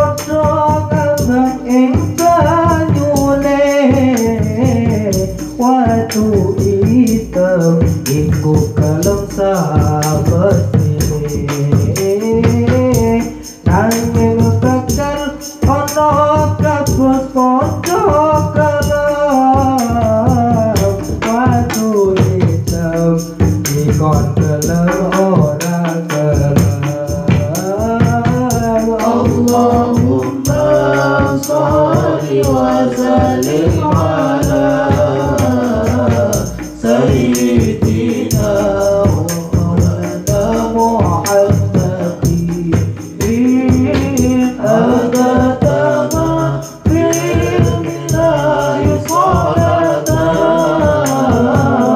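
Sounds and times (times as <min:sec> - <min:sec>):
frame drums: 0:00.0 - 0:51.9
jingling percussion: 0:00.0 - 0:51.9
person singing devotional song: 0:00.0 - 0:51.9.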